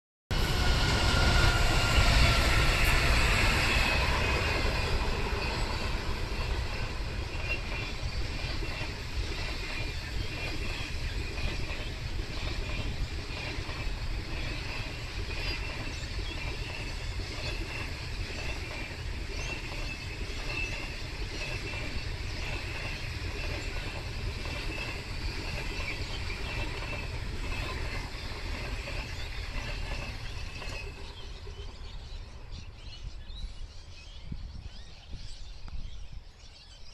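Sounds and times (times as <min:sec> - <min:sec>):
diesel locomotive passing: 0:00.3 - 0:36.2
train wheels rumbling on rail: 0:00.3 - 0:36.9.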